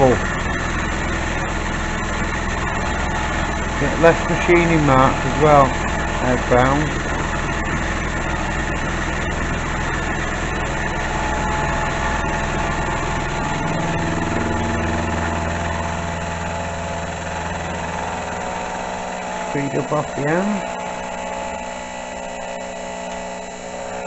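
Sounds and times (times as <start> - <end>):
milling machine humming: 0.0 - 24.0
power feed motor: 0.0 - 24.0.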